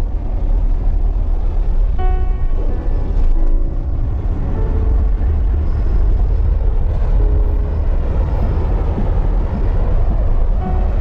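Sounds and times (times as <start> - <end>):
car driving through tunnel: 0.0 - 11.0.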